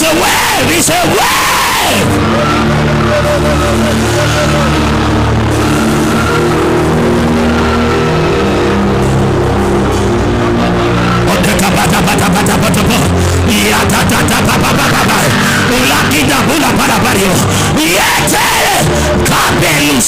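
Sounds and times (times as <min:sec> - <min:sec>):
held keyboard chords: 0:00.0 - 0:20.0
steady bass: 0:00.0 - 0:20.0.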